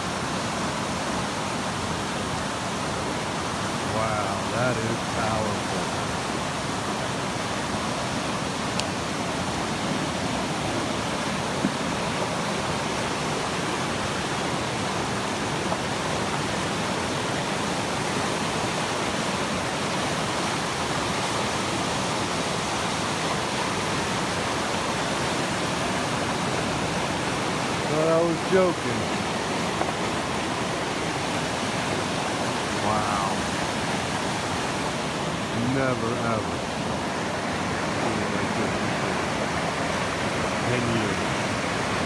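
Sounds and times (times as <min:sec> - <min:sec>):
creek floodwater roaring: 0:00.0 - 0:42.0.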